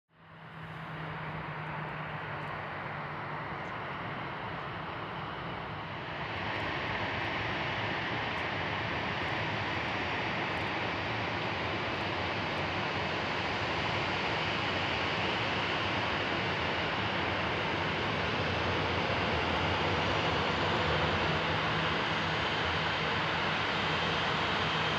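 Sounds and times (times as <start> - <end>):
jet engines running: 0.2 - 24.9.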